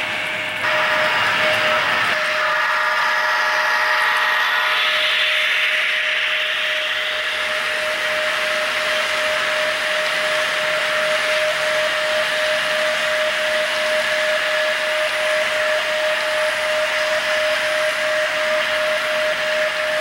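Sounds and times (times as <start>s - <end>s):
model train whine and rolling hiss: 0.0s - 20.0s
constant tone: 0.5s - 20.0s.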